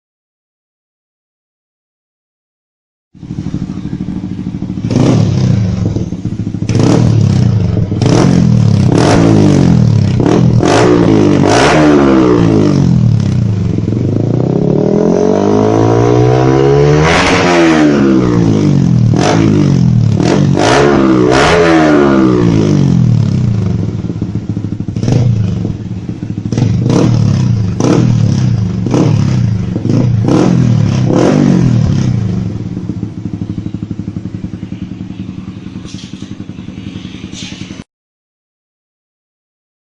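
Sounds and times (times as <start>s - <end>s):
motorcycle engine revving: 3.2s - 37.9s.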